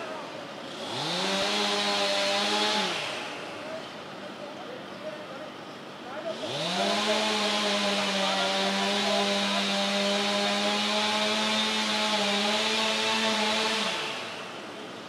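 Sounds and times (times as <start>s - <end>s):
chainsaw cutting wood: 0.0s - 3.6s, 6.3s - 14.8s.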